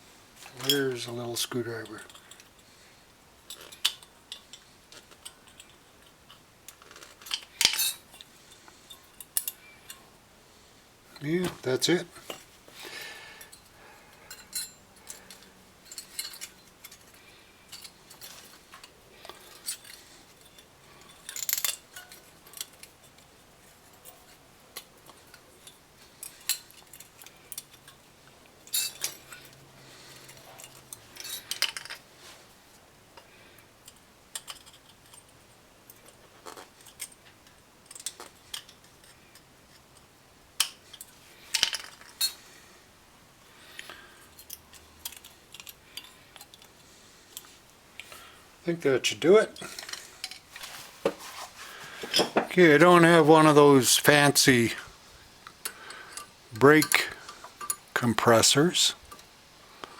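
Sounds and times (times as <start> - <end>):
metallic clinks and scrapes of tools: 0.4 - 10.1, 11.1 - 42.6, 43.8 - 48.4, 49.4 - 59.9.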